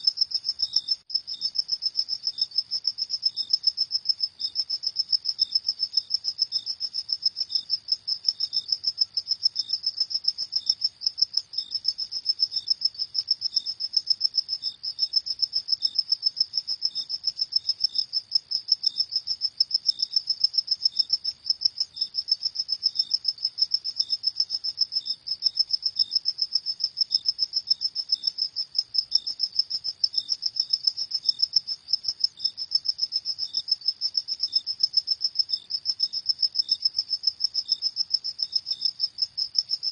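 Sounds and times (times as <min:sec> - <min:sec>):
slower cricket chirps: 0:00.0 - 0:39.9.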